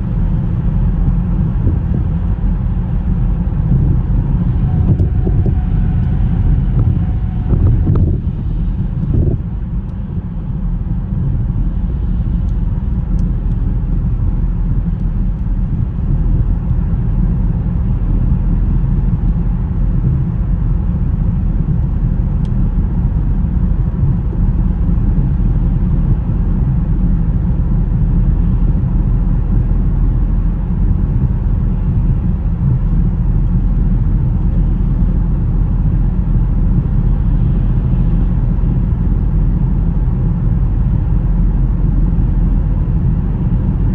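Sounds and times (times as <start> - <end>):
car driving on snowy road: 0.0 - 43.9.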